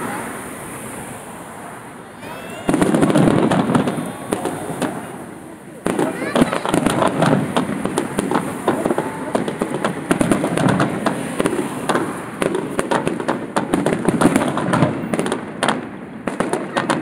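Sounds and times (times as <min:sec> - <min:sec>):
fireworks bursting: 0:02.2 - 0:17.0.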